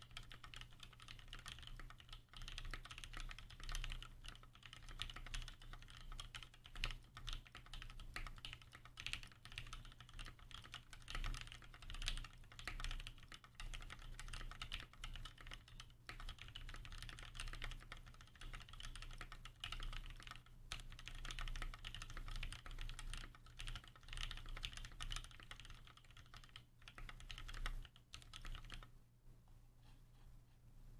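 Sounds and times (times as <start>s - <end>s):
fast mechanical keyboard typing: 0.0s - 28.9s.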